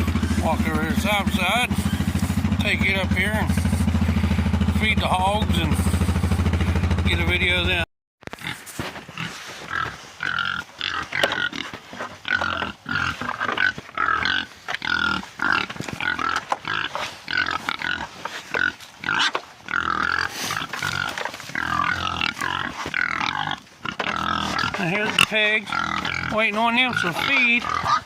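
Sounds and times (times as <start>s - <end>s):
hogs squealing: 0.0s - 6.8s, 9.2s - 28.0s.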